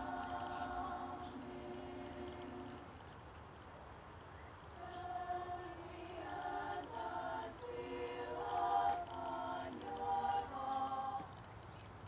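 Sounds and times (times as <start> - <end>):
women's choir singing a cappella: 0.0 - 3.0, 4.6 - 11.4.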